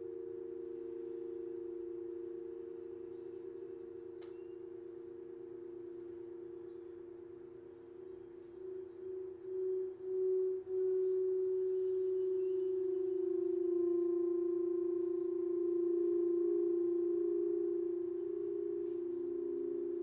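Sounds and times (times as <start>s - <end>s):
crystal singing bowls ringing: 0.0s - 20.0s
lower singing bowl tone: 0.0s - 20.0s.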